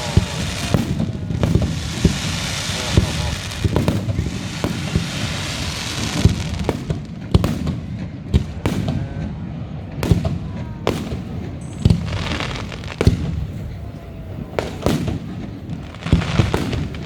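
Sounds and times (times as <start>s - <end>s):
hissing firework crackle: 0.0s - 9.0s, 9.9s - 17.0s
firework shells booming: 0.0s - 17.0s.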